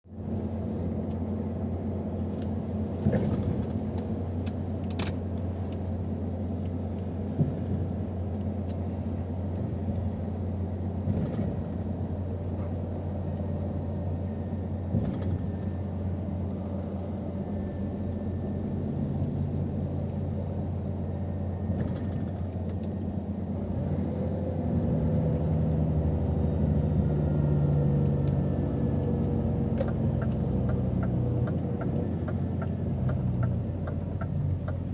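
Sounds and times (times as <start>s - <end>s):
road noise: 0.1s - 34.9s
truck engine drone: 0.1s - 34.9s.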